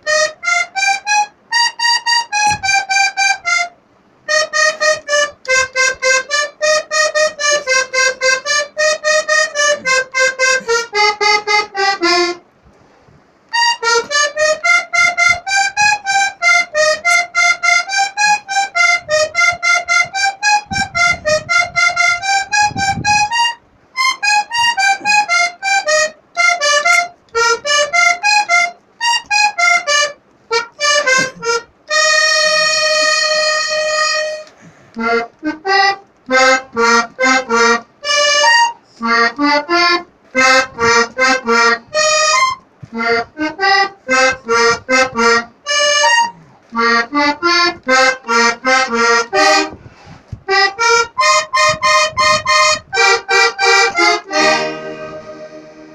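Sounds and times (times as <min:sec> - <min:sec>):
accordion melody: 0:00.0 - 0:12.6, 0:13.4 - 0:55.9.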